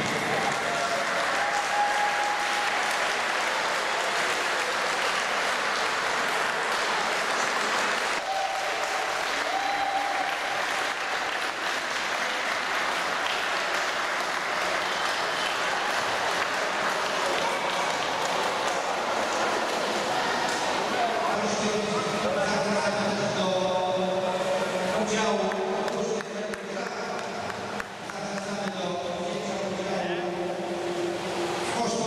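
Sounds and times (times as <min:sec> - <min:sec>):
swimmers splashing in a pool: 0:00.0 - 0:32.0.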